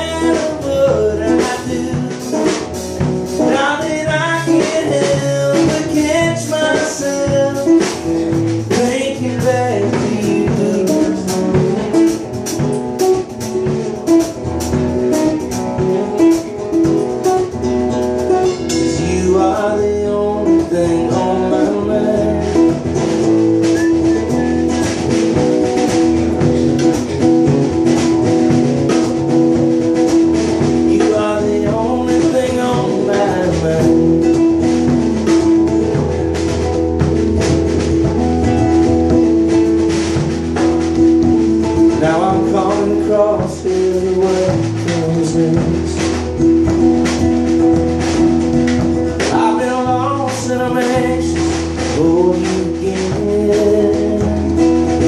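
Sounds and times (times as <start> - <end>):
acoustic guitar chords: 0.0 - 55.0
drum kit beat: 0.0 - 55.0.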